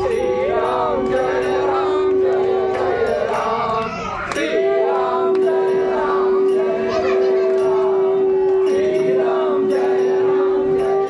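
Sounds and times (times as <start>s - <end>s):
crowd chanting: 0.0s - 11.0s
held drone note: 0.0s - 11.0s.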